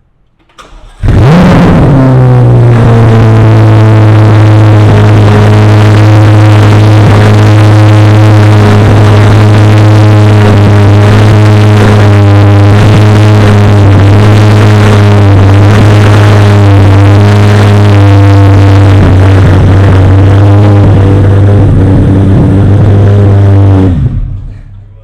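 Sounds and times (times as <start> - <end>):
car engine idling high: 0.5 - 25.0.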